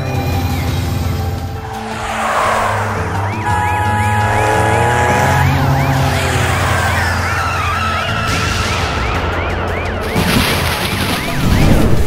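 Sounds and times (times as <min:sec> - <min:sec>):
low drone of cars: 0:00.0 - 0:12.0
police siren wailing: 0:01.6 - 0:12.0.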